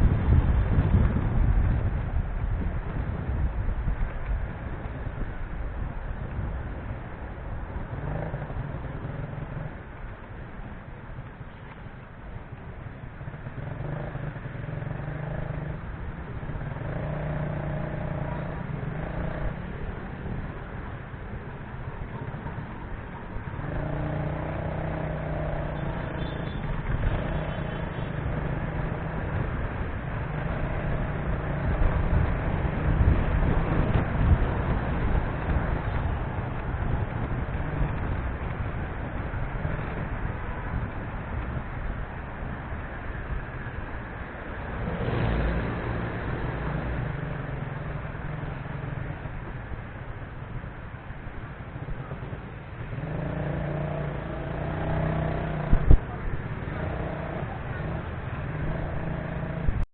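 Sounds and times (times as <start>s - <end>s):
vehicle engine with road noise: 0.0s - 59.9s.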